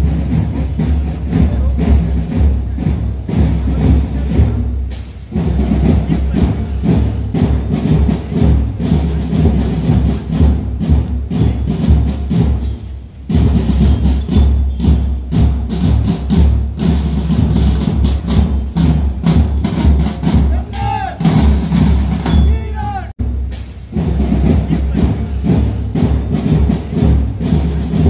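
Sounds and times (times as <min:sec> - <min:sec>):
marching drum band: 0:00.0 - 0:28.0.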